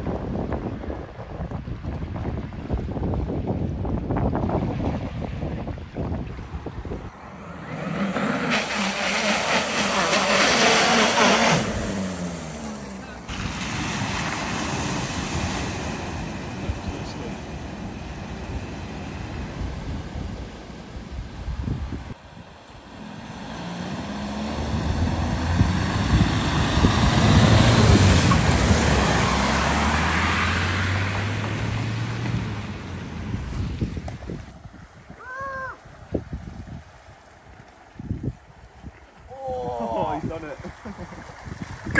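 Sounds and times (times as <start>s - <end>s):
vehicle engine hum: 0.0s - 35.1s
water splashing: 4.4s - 41.9s.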